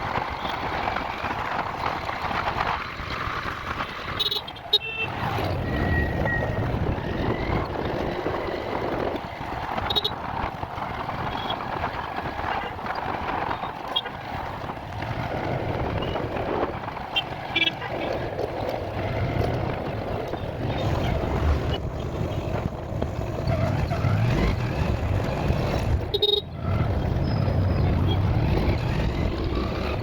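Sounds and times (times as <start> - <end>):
motorcycle engine and road noise: 0.0 - 30.0
wind rumbling on microphone: 0.0 - 30.0.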